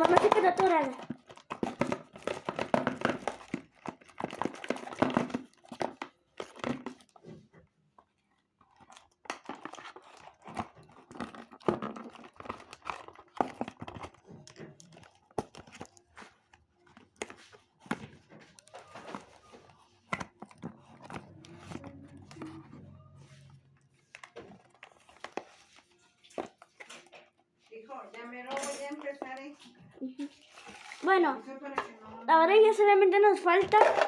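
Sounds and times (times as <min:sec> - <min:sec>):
toy packaging crinkling and rustling: 0:00.0 - 0:31.8, 0:32.5 - 0:34.0.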